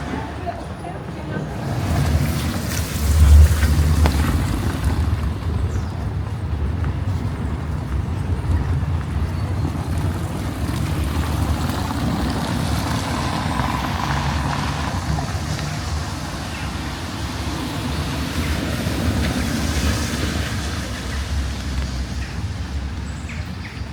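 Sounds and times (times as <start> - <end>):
traffic rumble: 0.0 - 23.9
vehicle passing close by: 1.4 - 5.8, 8.3 - 23.1.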